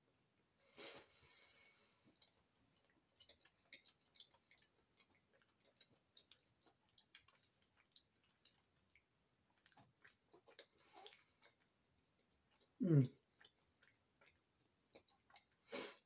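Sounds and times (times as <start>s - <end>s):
closed-mouth chewing: 0.8s - 16.0s.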